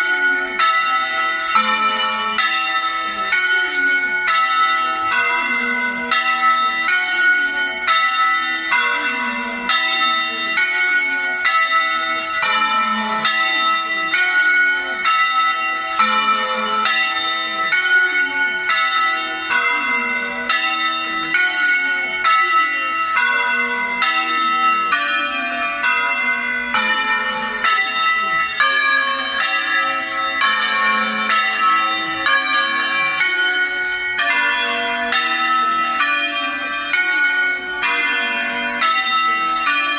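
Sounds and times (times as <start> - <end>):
church bells rung by hand: 0.0 - 39.9.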